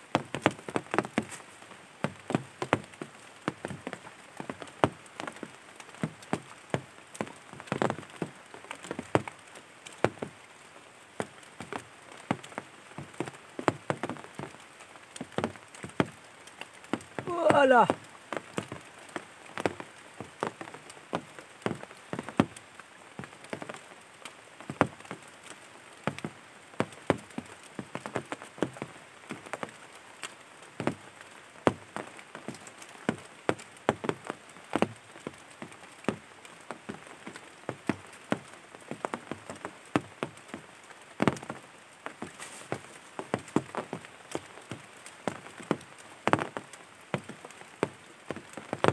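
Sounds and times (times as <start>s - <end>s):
heavy raindrops tapping: 0.0s - 48.9s.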